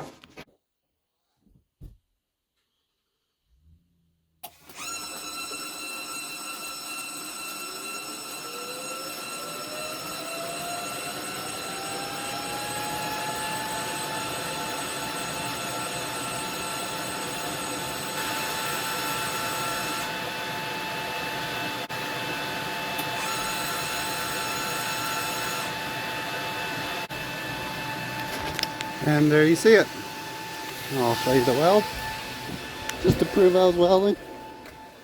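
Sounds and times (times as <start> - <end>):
welder whine: 4.6 - 35.0.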